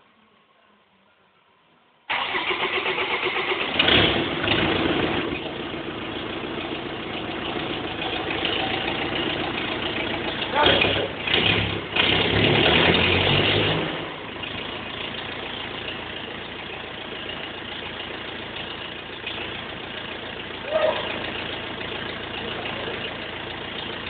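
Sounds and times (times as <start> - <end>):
diesel engine idling: 2.1 - 24.0.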